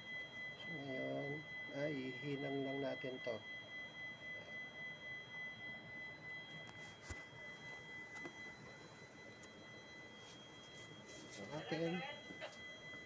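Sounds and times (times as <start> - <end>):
high-pitched electronic whine: 0.0 - 13.0.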